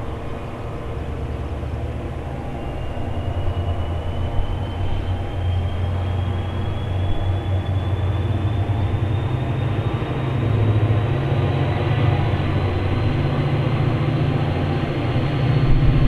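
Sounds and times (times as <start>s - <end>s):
diesel locomotive engine drone: 0.0s - 16.0s
turbocharger whine: 0.0s - 16.0s.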